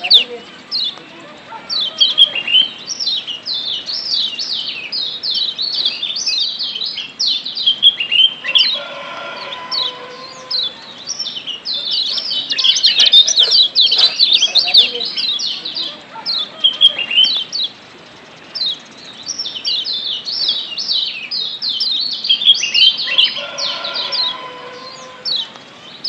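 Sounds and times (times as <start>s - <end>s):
birds chirping rapidly: 0.0s - 26.0s.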